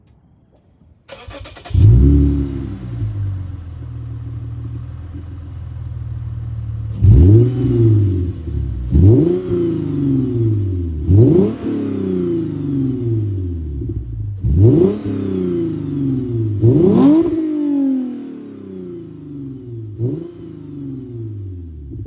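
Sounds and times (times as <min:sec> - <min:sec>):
car engine idling and revving: 0:01.1 - 0:22.0.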